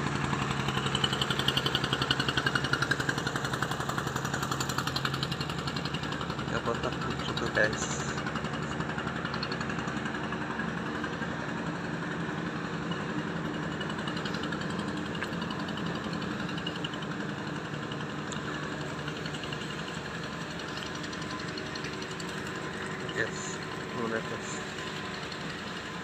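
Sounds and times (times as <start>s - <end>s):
engine droning steadily: 0.0s - 26.0s.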